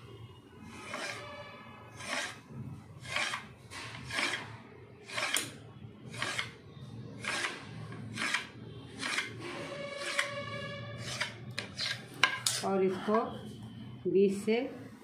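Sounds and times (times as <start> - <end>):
knife scraping through dough on metal: 0.6 - 13.2.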